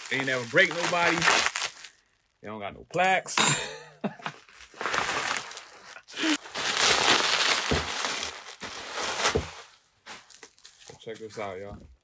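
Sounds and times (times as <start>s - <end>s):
bubble wrap rustling and crinkling: 0.0s - 2.3s, 4.2s - 11.7s.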